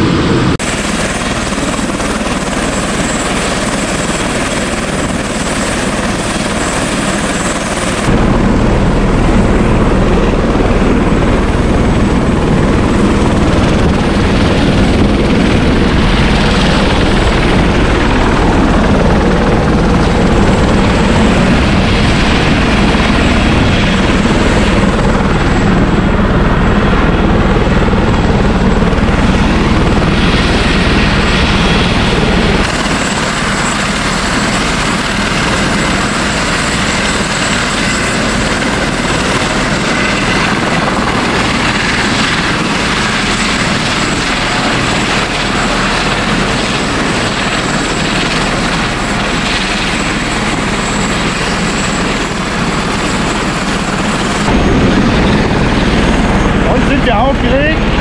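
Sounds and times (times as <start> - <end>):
helicopter turbine and rotor rumble: 0.0 - 58.0.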